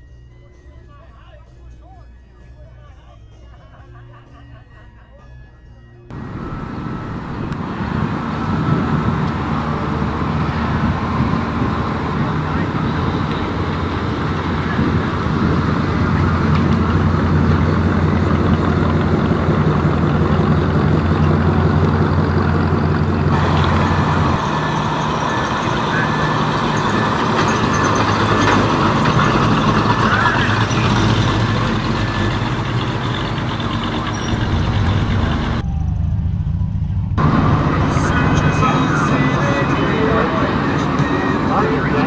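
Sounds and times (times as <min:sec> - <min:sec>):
another engine sound: 0:06.1 - 0:42.0
vehicle engine running: 0:06.1 - 0:42.0.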